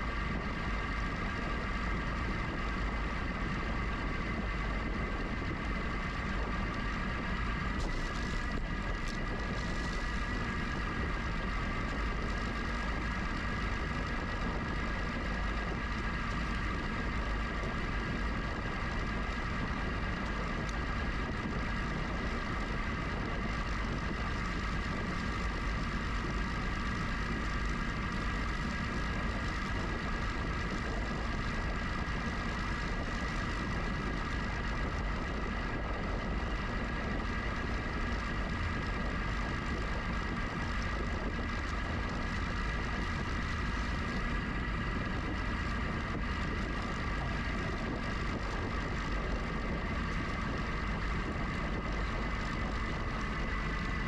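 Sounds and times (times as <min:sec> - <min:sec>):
constant high whine: 0:00.0 - 0:54.0
wind rumble on microphone: 0:00.0 - 0:54.0.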